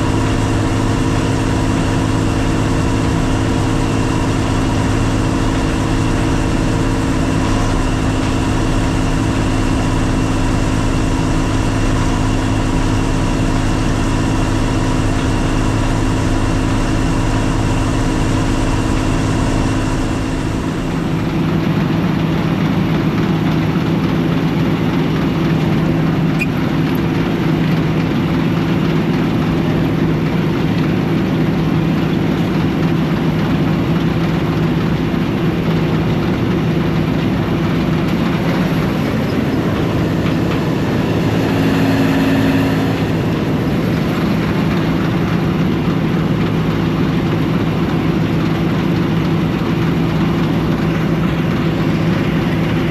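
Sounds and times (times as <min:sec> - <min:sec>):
combine harvester engine drone: 0:00.0 - 0:52.9.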